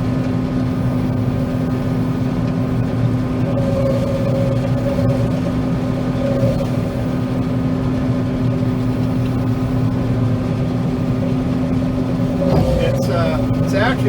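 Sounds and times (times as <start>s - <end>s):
combine engine drone: 0.0s - 14.0s.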